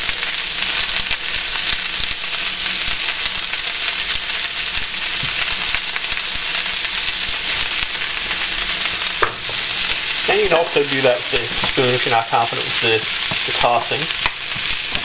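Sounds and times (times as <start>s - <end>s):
cabbage sizzling in fat: 0.0s - 15.0s.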